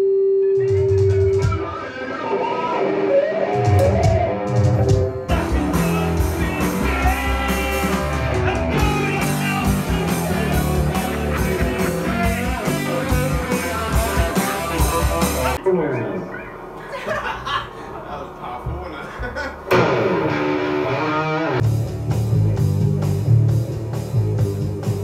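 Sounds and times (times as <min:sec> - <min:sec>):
rock band with drums: 0:00.4 - 0:15.6, 0:18.6 - 0:25.0
electric guitar playing: 0:00.4 - 0:16.3, 0:19.7 - 0:25.0.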